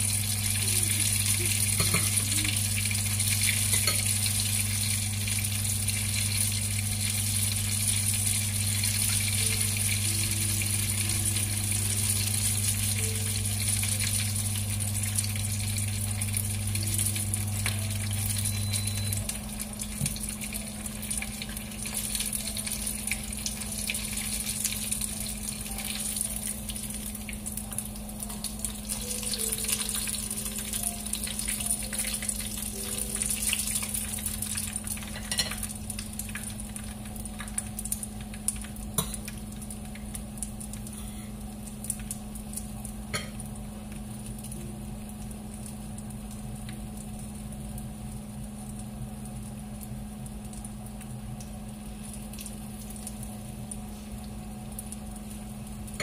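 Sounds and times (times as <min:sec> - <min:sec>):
dumplings sizzling in a frying pan: 0:00.0 - 0:56.0
low steady hum: 0:00.0 - 0:56.0.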